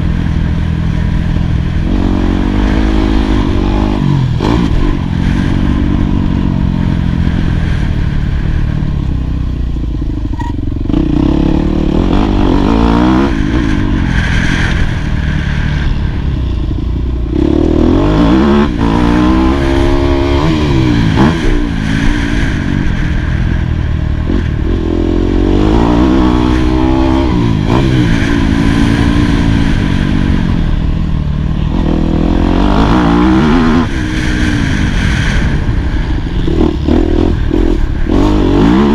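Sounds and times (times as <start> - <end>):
motocross engine revving: 0.0 - 8.6, 10.4 - 16.0, 17.2 - 23.4, 24.2 - 38.9.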